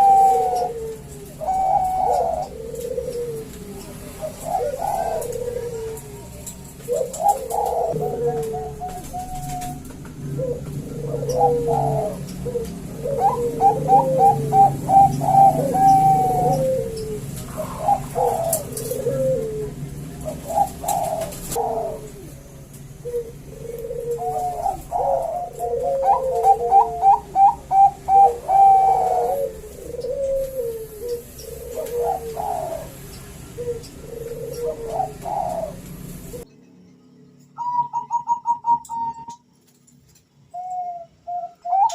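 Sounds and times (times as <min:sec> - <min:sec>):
doves cooing: 0:00.0 - 0:36.5, 0:37.6 - 0:39.5, 0:40.4 - 0:41.9.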